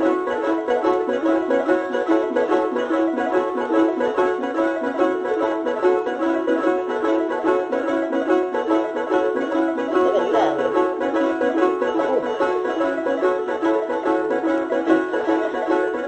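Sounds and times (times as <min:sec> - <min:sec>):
fast music with steady beat: 0:00.0 - 0:16.0.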